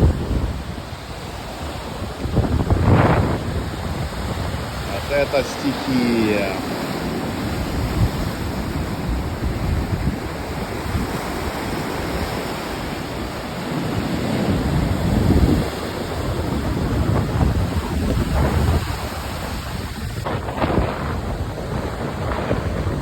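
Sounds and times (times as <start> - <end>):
gusty wind on microphone: 0.0 - 23.0
surf breaking on shore: 0.0 - 23.0.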